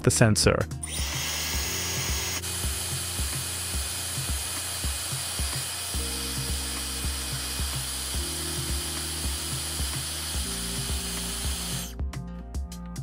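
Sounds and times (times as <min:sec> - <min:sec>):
background music with steady beat: 0:00.0 - 0:13.0
hair dryer blowing: 0:00.8 - 0:11.9.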